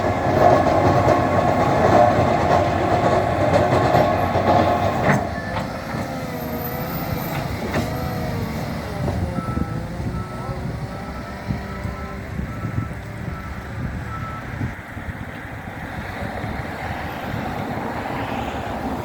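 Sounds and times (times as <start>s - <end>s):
loader engine rumbling: 0.0s - 19.0s.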